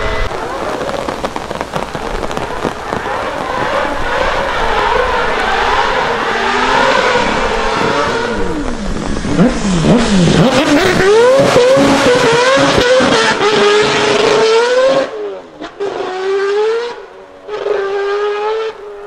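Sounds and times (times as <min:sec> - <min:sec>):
rain hiss: 0:00.0 - 0:15.6
car engine revving: 0:00.0 - 0:19.0.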